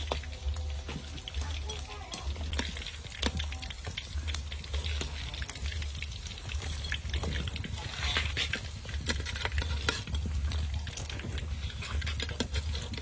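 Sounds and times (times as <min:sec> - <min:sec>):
hot oil crackling and popping: 0:00.0 - 0:13.0.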